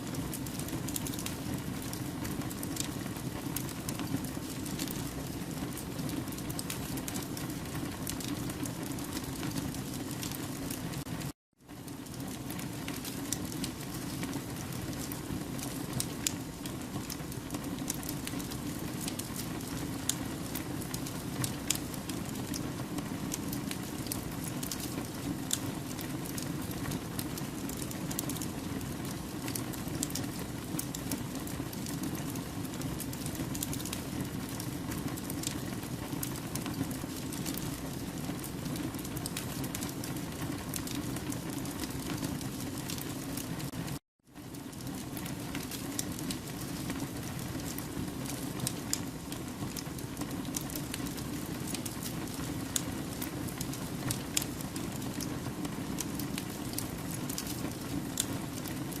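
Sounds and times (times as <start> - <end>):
campfire crackling: 0.0 - 10.7, 11.9 - 59.0.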